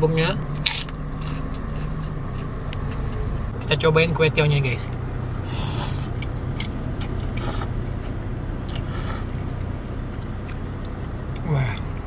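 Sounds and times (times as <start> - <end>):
vehicle hum in car cabin: 0.0 - 12.0.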